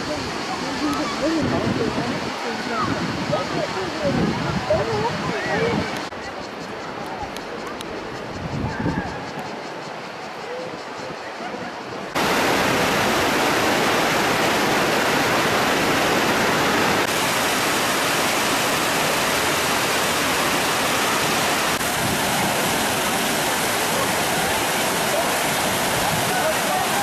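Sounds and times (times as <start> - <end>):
waterfall rushing: 0.0 - 6.2, 9.7 - 27.0.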